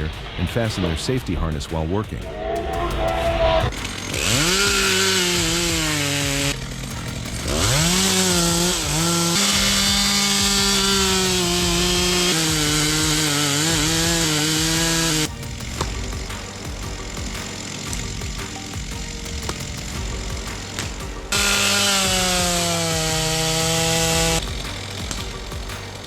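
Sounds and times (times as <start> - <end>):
chainsaw engine revving: 2.4 - 26.0.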